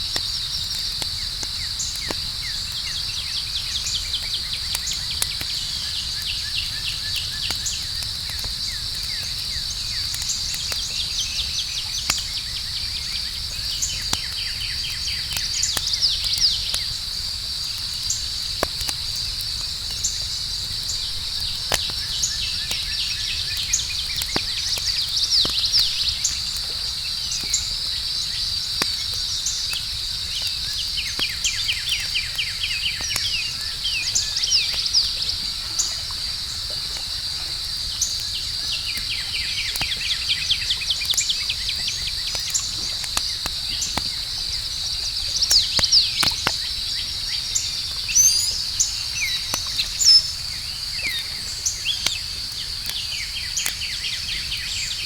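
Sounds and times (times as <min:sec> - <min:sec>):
campfire crackling and popping: 0:00.0 - 0:55.0
chorus of crickets: 0:00.0 - 0:55.0.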